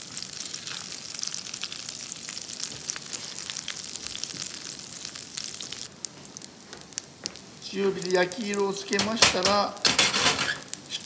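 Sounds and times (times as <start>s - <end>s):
fish frying in butter: 0.0s - 11.0s.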